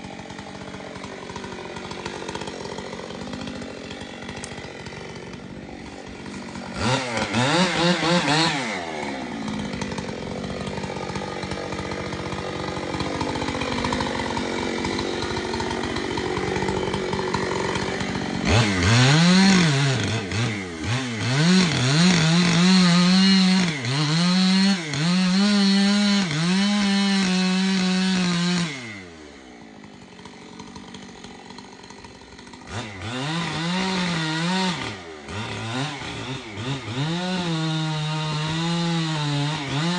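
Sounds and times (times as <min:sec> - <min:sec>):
chainsaw cutting a tree trunk: 0:00.0 - 0:39.9.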